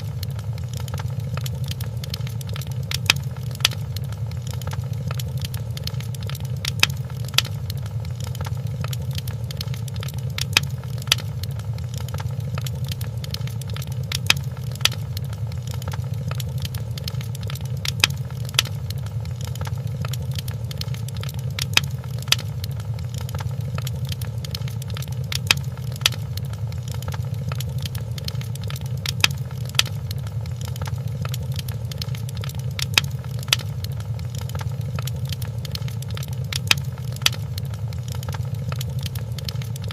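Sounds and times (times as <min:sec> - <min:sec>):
fire crackling pops: 0:00.0 - 0:39.9
fire rumbling: 0:00.0 - 0:39.9.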